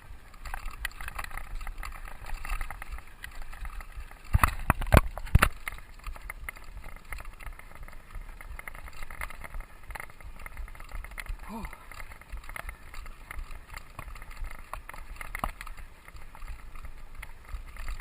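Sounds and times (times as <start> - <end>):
bike jolts on rough ground: 0.0 - 18.0
bike tyres rumbling on dirt: 0.0 - 18.0
wind: 0.0 - 18.0.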